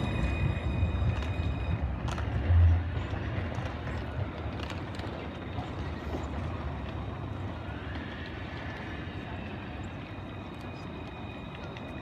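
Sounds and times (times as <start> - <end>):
street noise: 0.0 - 12.0
tram rumbling on rails: 0.0 - 12.0.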